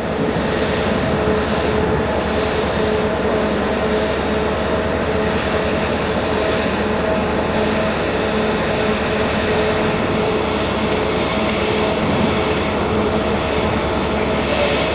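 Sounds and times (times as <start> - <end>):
ship machinery hum: 0.0 - 14.9.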